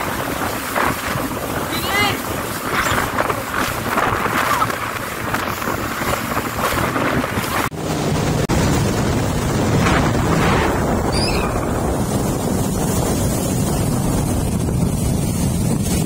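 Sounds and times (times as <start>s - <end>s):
jet ski engine drone: 0.0s - 16.0s
water rushing and splashing: 0.0s - 16.0s
wind buffeting microphone: 0.0s - 16.0s.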